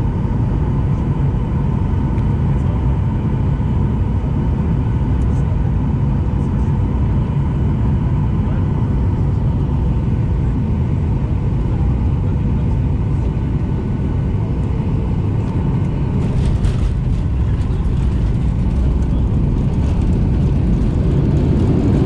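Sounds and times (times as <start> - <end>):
jet engines and airflow in cabin: 0.0 - 22.0.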